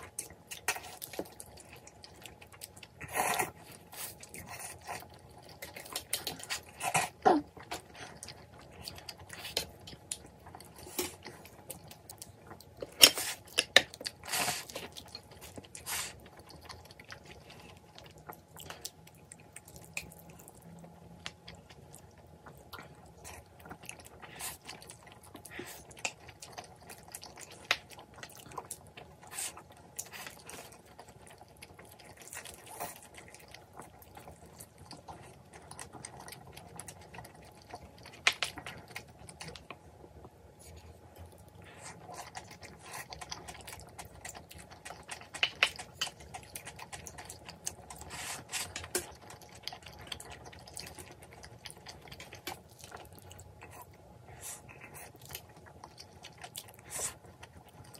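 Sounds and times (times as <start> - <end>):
slurping and chewing noodles: 0.0 - 57.9.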